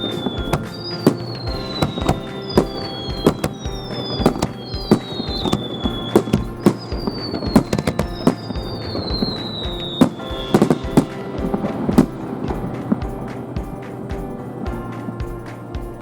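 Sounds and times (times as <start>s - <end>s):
whistling firework shells: 0.0s - 13.5s
fireworks bursting: 0.0s - 15.2s
music: 0.0s - 16.0s.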